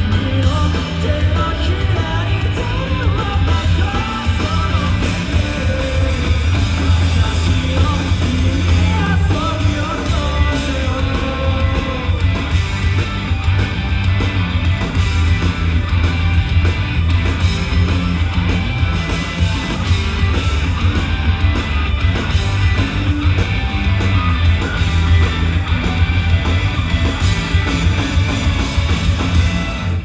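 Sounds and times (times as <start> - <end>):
electric guitar: 0.0 - 30.0
live rock band playing: 0.0 - 30.0.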